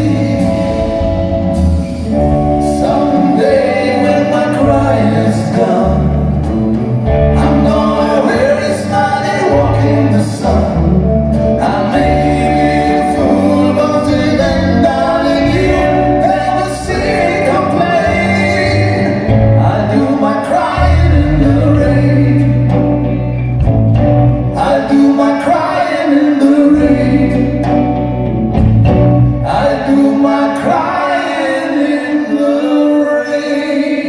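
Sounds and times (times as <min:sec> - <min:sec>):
men singing together: 0:00.0 - 0:06.6, 0:07.3 - 0:22.8, 0:24.5 - 0:27.9, 0:29.4 - 0:34.0
live rock band music: 0:00.0 - 0:34.0.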